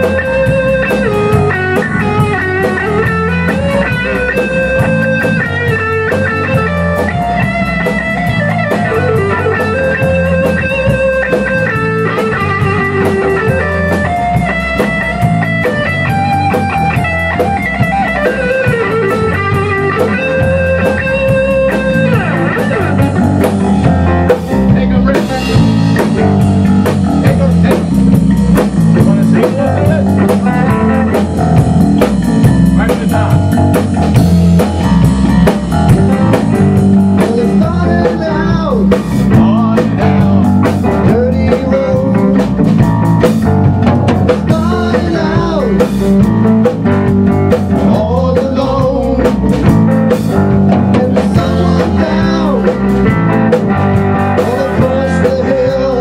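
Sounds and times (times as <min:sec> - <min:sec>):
drum kit: 0:00.0 - 0:56.0
electric bass: 0:00.0 - 0:56.0
electric guitar: 0:00.0 - 0:56.0.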